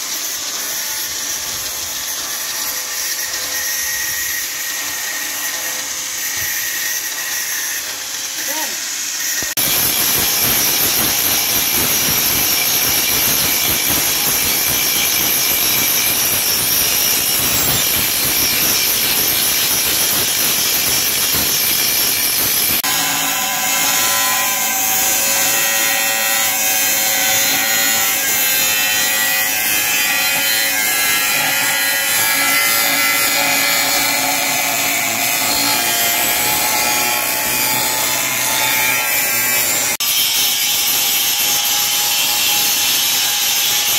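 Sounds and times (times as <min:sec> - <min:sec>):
angle grinder grinding steel: 0:00.0 - 0:43.9.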